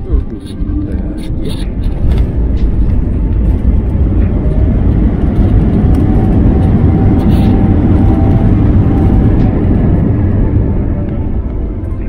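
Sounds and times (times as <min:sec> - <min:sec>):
aircraft engines and wheels rumbling: 0:00.0 - 0:12.0
faint rising whine: 0:00.0 - 0:12.0.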